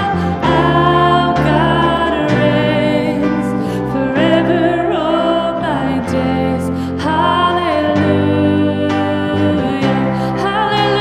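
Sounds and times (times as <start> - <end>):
worship band playing: 0.0 - 11.0.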